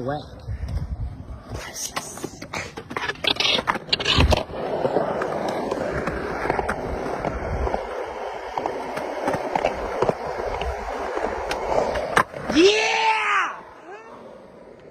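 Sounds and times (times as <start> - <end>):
skateboard wheels rolling: 0.2 - 14.9.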